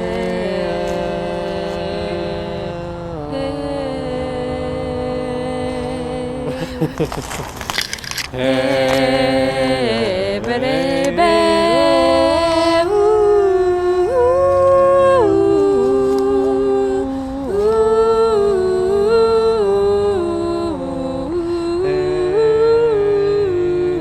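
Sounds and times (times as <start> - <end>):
voices singing a cappella: 0.0 - 7.2, 7.8 - 24.0.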